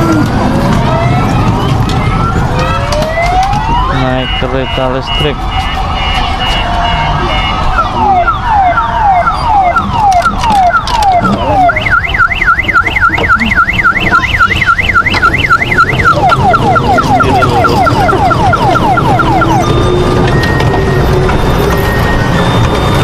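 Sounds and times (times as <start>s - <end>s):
electronic siren wail: 0.0s - 23.0s.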